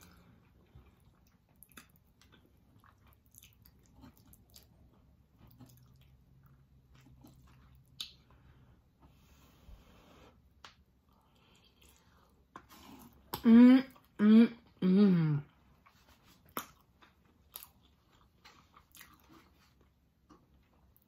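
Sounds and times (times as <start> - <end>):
chewing and mouth sounds: 0.0 - 8.5, 11.0 - 14.2, 15.5 - 21.0.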